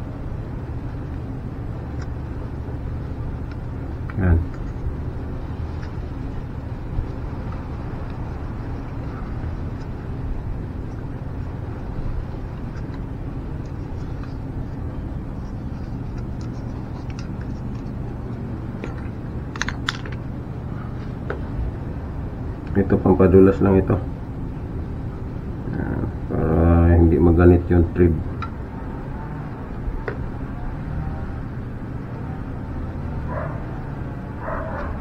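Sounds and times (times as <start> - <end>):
low background rumble: 0.0 - 35.0.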